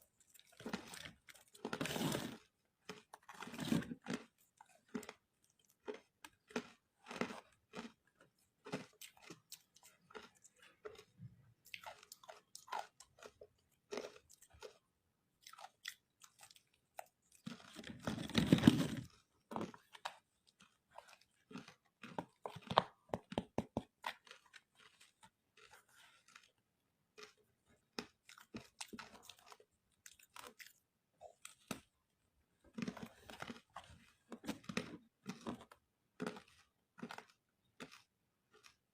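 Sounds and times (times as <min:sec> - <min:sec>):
chewing crunchy ice: 0:00.0 - 0:38.9.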